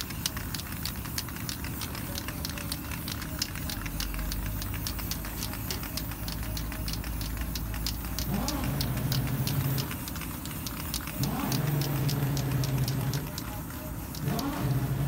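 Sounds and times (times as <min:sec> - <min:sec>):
spray can ball rattling: 0:00.0 - 0:15.0.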